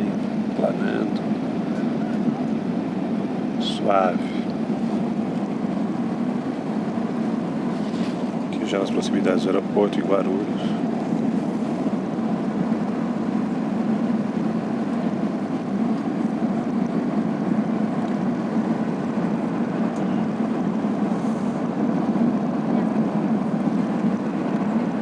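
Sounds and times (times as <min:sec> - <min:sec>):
airplane cabin engine noise: 0:00.0 - 0:25.0.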